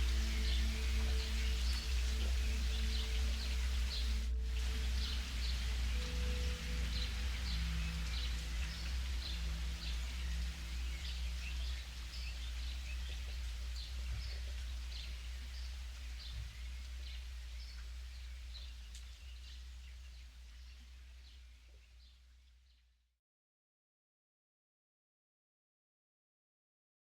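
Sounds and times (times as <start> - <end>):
steady low hum: 0.0 - 21.8
bird chirps: 0.0 - 22.2
soft held low tones: 0.0 - 22.8.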